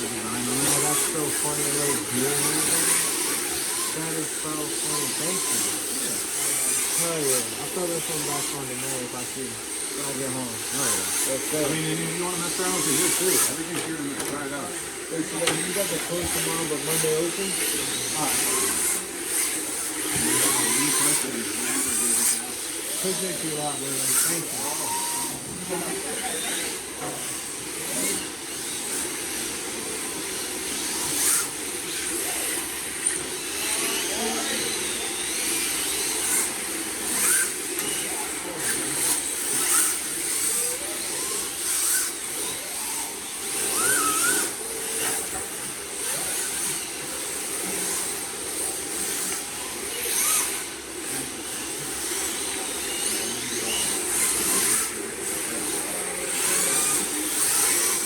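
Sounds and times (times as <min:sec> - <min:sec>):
rc car motor whine: 0:00.0 - 0:58.0.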